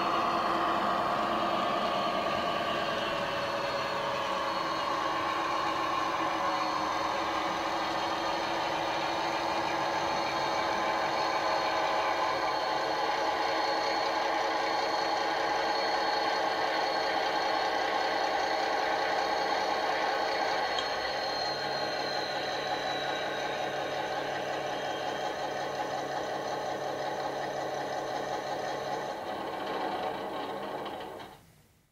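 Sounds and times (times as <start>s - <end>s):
high turbo whistle: 0.0s - 26.0s
model diesel engine running: 0.0s - 31.3s.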